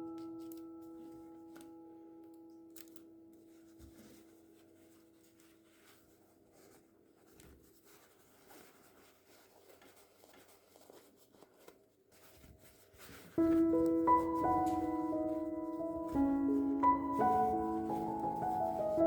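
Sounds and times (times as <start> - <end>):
soft rustling: 2.7 - 19.0.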